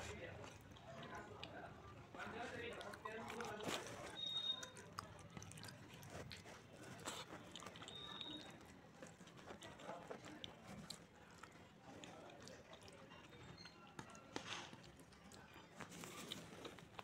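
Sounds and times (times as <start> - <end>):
fingers squishing food: 0.0 - 17.0.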